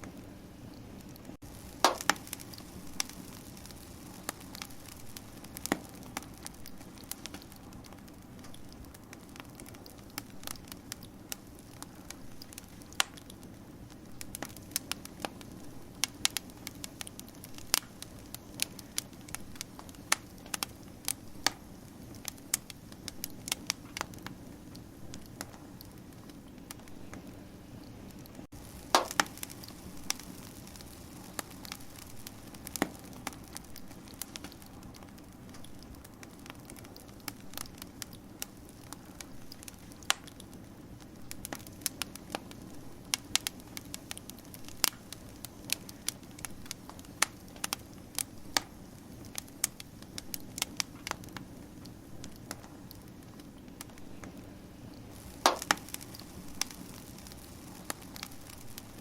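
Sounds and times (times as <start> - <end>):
fire popping and snapping: 0.0 - 59.0
wood fire crackling: 0.0 - 59.0.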